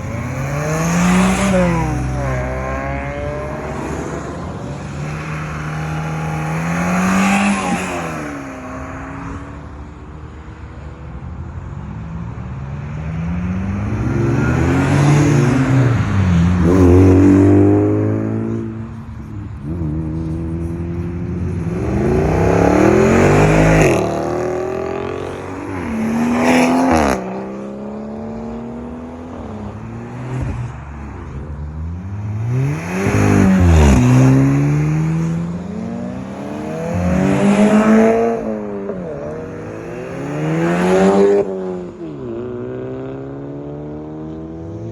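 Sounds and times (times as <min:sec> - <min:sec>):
cars accelerating past: 0:00.0 - 0:10.4, 0:12.0 - 0:44.9.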